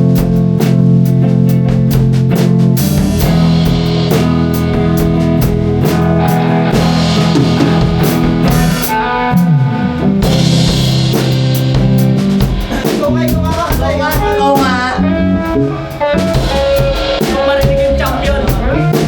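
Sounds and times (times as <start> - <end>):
drum kit beat: 0.0 - 19.0
rock band playing: 0.0 - 19.0
rock guitar: 0.0 - 19.0.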